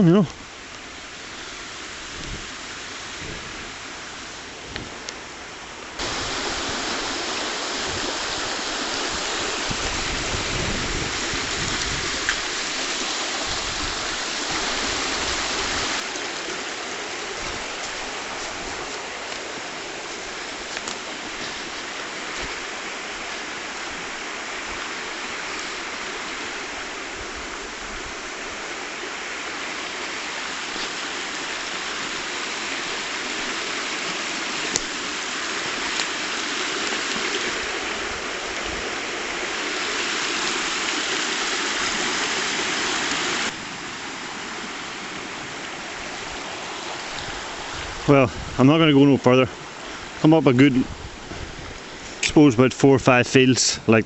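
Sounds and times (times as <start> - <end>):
small stream flowing: 0.0 - 54.0.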